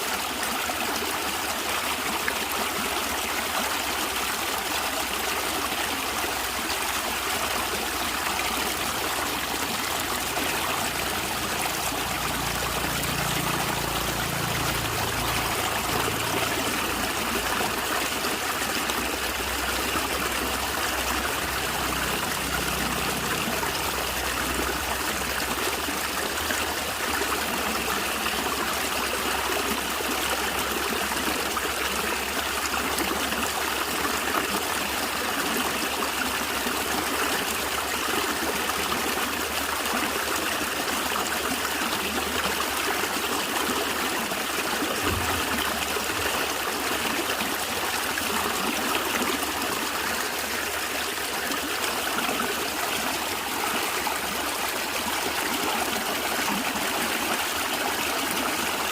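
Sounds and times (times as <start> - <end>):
stream flowing and gurgling: 0.0 - 58.9.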